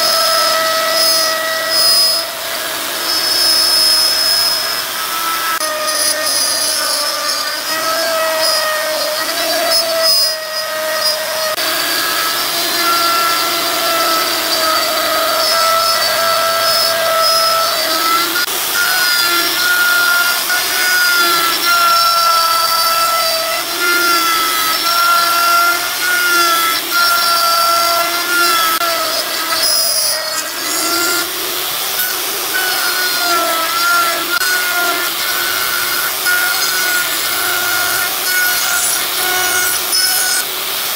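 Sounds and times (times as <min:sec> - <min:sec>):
power tool whining on wood: 0:00.0 - 0:40.9.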